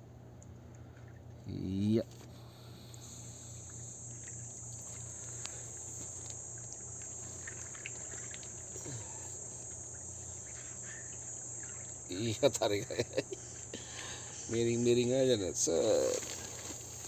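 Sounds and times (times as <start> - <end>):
high-pitched insect chorus: 1.5 - 17.0.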